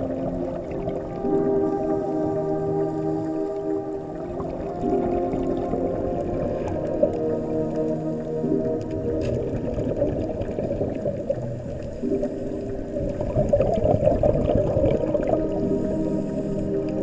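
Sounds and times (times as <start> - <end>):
soft ambient music tones: 0.0 - 17.0
underwater air bubbles: 0.0 - 17.0.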